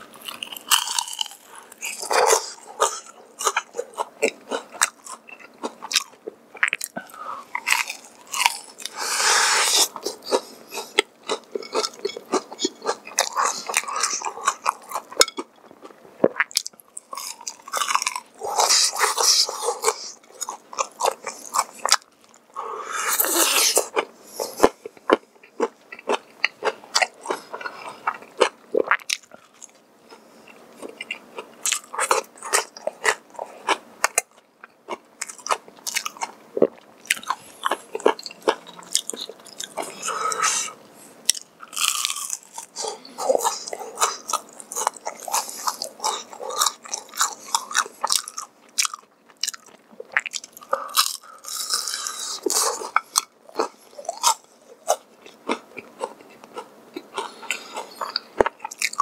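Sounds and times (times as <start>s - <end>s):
crunching fried chicken: 0.0s - 7.0s, 7.6s - 15.5s, 16.4s - 22.3s, 30.9s - 40.6s, 41.2s - 59.0s.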